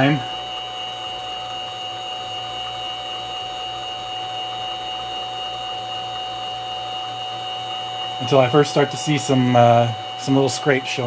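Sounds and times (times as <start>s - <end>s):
mill spindle whine: 0.0s - 11.0s.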